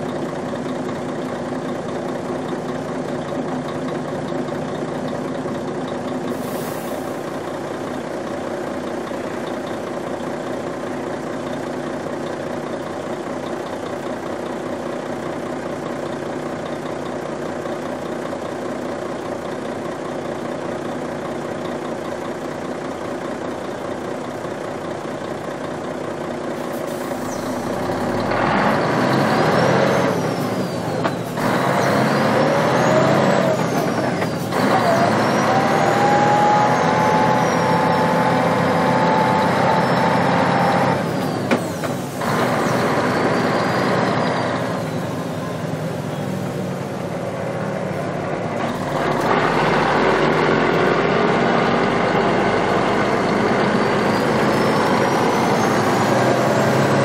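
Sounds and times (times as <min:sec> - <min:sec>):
truck engine: 0:00.0 - 0:57.0.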